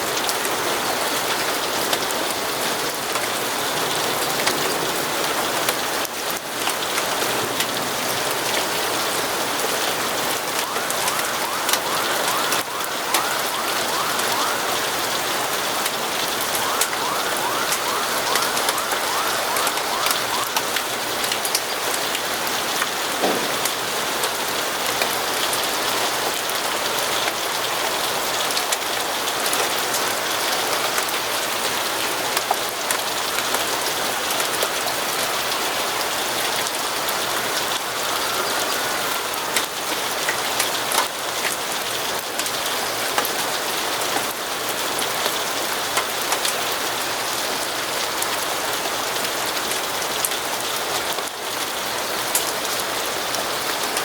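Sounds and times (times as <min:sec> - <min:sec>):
raindrops ticking on a surface: 0:00.0 - 0:54.0
steady rainfall: 0:00.0 - 0:54.0.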